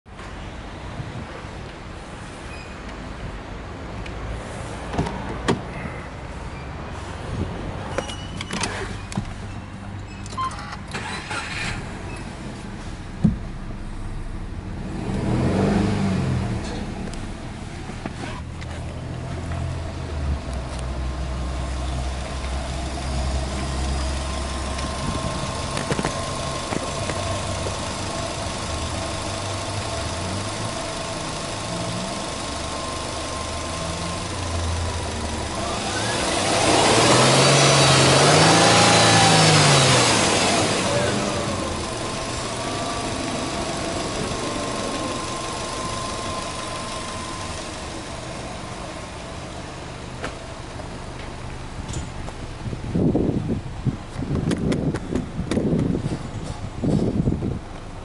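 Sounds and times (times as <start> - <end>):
car engine idling and revving: 0.1 - 58.0.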